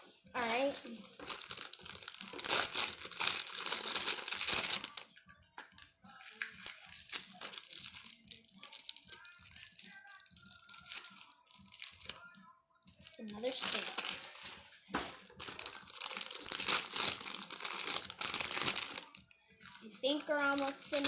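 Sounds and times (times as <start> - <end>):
packaging crinkling: 0.4 - 5.1, 5.7 - 12.4, 13.4 - 21.0.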